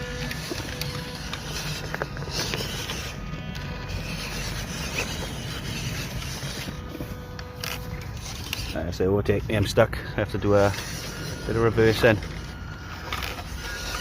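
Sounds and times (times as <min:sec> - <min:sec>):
electric motor and gearbox whirring: 0:00.0 - 0:14.0.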